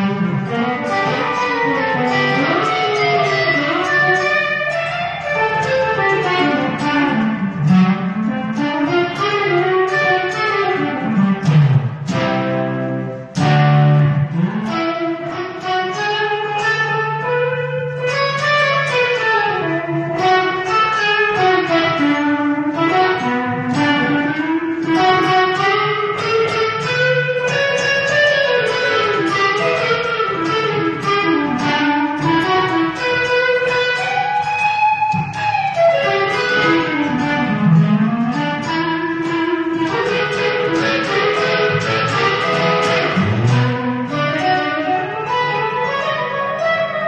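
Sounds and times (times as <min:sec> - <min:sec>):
electric guitar lead melody: 0:00.0 - 0:47.0.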